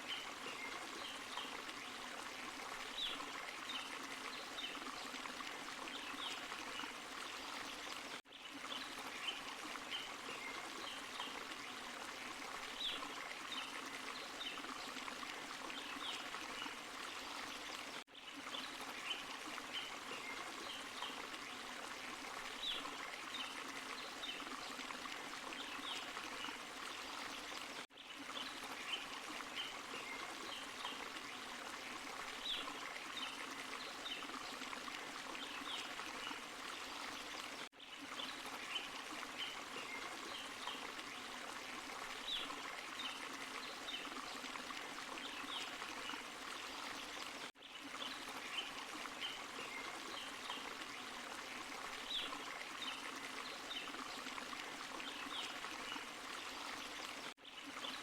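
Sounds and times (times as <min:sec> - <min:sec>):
waterfall and stream running: 0:00.0 - 0:58.0.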